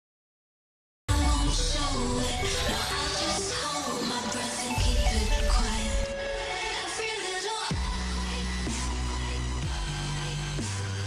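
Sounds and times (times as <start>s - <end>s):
electronic dance music: 1.1s - 11.0s.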